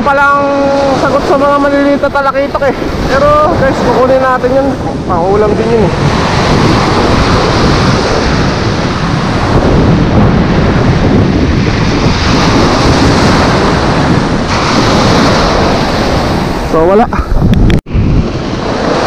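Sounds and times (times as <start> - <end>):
surf breaking and washing: 0.0 - 19.0
wind buffeting microphone: 0.0 - 19.0.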